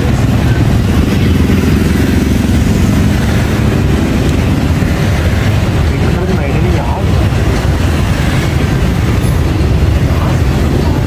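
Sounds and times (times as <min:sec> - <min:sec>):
motorbike engine rumbling: 0:00.0 - 0:11.0
street traffic: 0:00.0 - 0:11.0.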